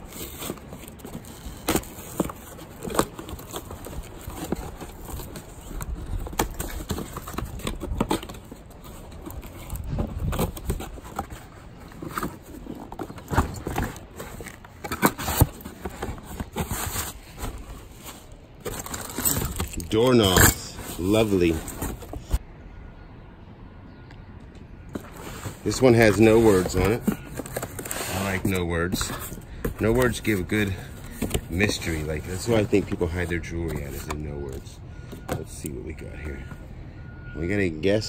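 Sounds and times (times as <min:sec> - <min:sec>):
cardboard boxes being handled: 0:00.0 - 0:22.4, 0:24.9 - 0:36.6.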